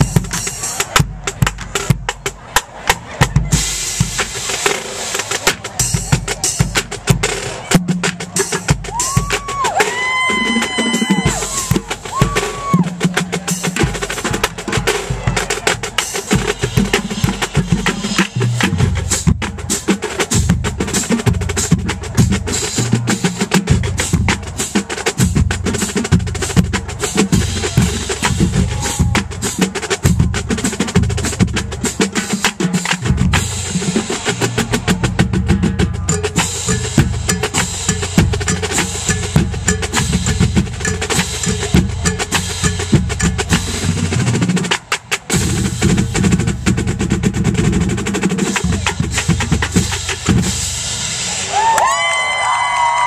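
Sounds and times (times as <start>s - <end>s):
snare and tenor drum strokes: 0.0s - 51.8s.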